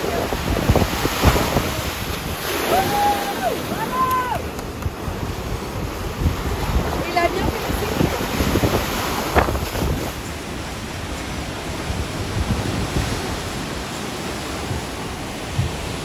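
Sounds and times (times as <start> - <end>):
waves breaking and churning: 0.0 - 16.0
wind buffeting microphone: 0.0 - 16.0.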